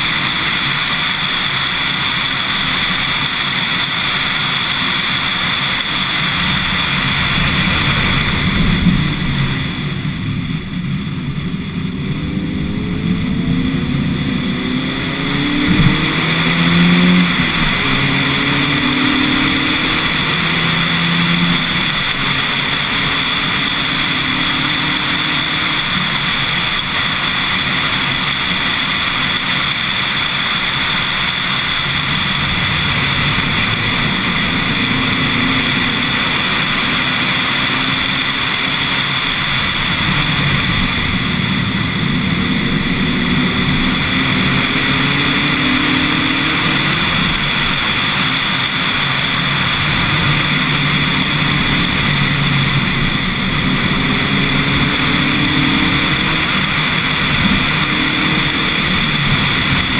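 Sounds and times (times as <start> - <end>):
car engine under load: 0.0 - 59.9
wind and road noise: 0.0 - 59.9.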